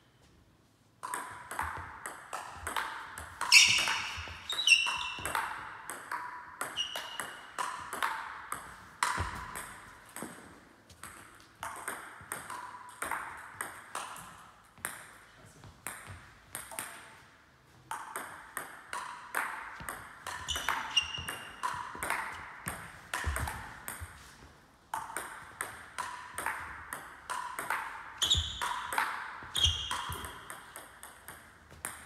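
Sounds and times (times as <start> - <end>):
table tennis ball hits: 1.0 - 15.2, 17.9 - 32.0.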